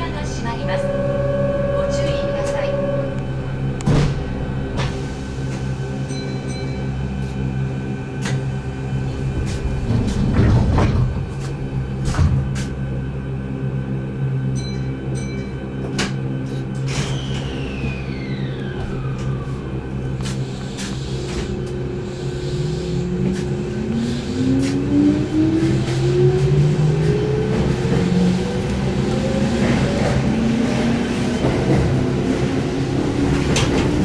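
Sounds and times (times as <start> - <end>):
electric train motor whine: 0.0 - 34.0.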